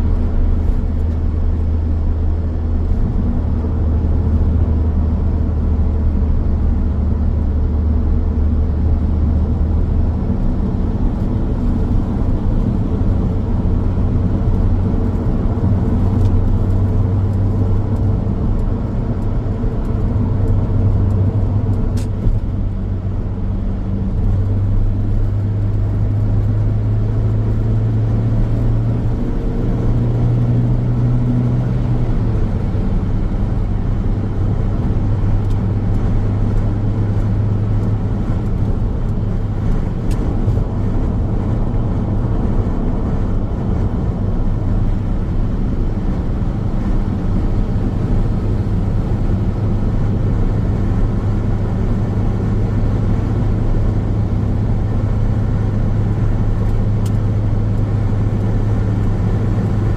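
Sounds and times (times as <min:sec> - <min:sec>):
car engine drone: 0:00.0 - 0:59.9.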